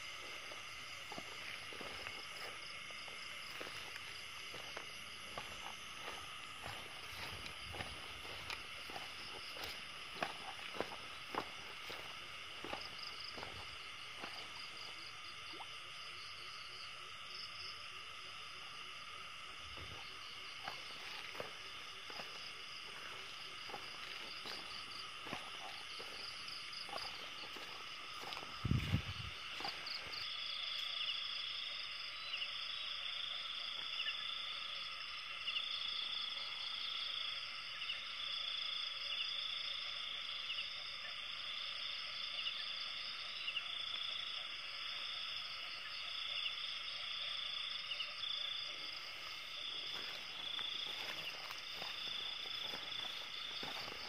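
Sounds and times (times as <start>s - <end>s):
crickets chirring: 0.0s - 54.0s
pulsing insect trill: 0.0s - 54.0s.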